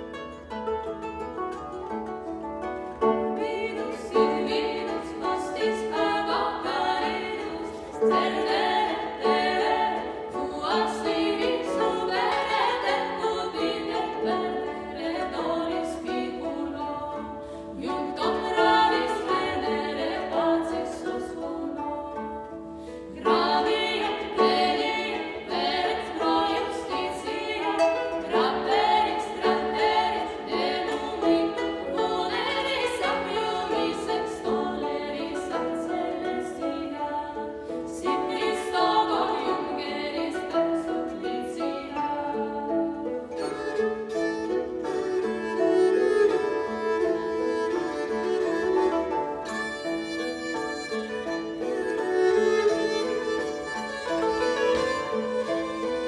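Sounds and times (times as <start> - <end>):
plucked string instrument: 0.0 - 56.0
voices singing together: 3.0 - 22.4, 23.0 - 50.0.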